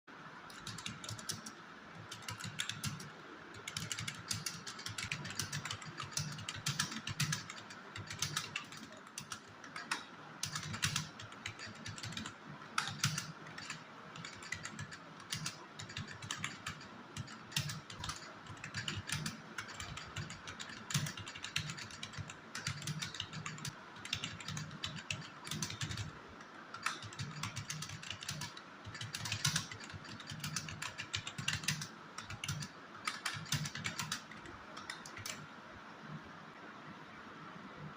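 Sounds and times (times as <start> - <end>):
typing on keyboard: 0.5 - 35.5.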